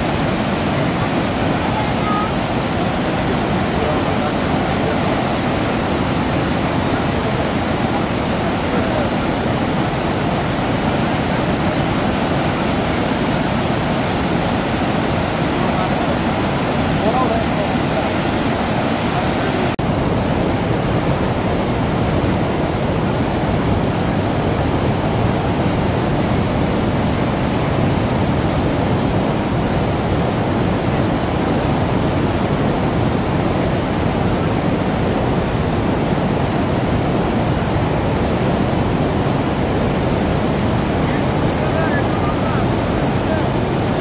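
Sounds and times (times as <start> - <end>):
water gushing over weir: 0.0 - 44.0.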